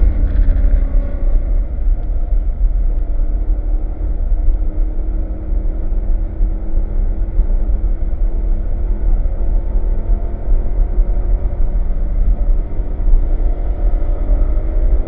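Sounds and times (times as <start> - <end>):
car engine running under load: 0.0 - 15.0
road and wind noise: 0.0 - 15.0.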